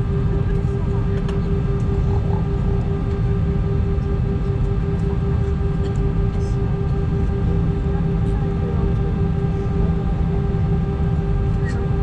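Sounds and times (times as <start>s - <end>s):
jet engines and airflow rumble: 0.0s - 12.0s
steady hum: 0.0s - 12.0s.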